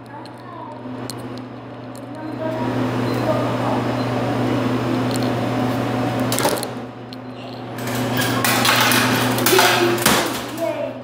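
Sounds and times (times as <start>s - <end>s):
vending machine motor humming: 0.0s - 11.0s.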